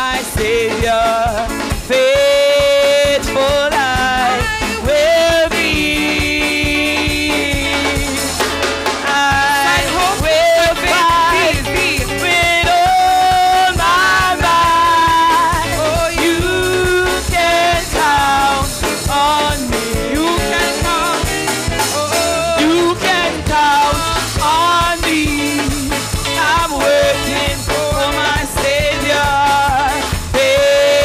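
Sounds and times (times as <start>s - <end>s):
gospel chorus singing: 0.0s - 31.0s
live band with drum kit: 0.0s - 31.0s.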